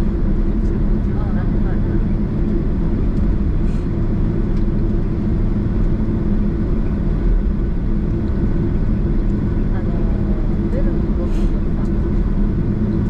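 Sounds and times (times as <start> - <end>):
cabin air: 0.0 - 13.0
jet engines idling: 0.0 - 13.0.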